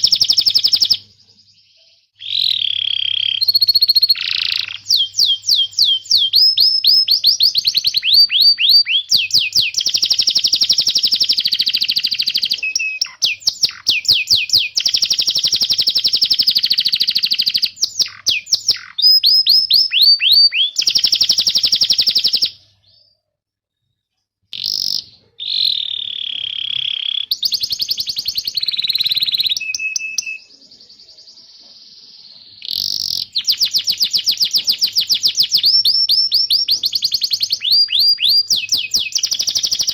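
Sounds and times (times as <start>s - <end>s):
canary singing trills: 0.0s - 23.4s, 24.1s - 39.9s.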